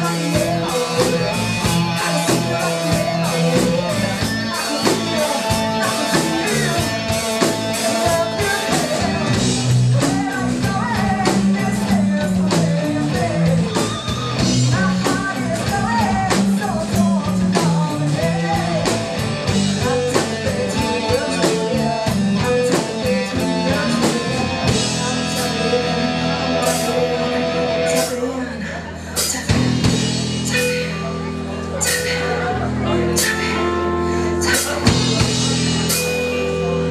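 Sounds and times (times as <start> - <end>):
drum kit beat: 0.0 - 28.3, 29.2 - 36.9
woman singing: 0.0 - 31.1, 31.8 - 35.3
electric guitars: 0.0 - 36.9
rock band playing: 0.0 - 36.9.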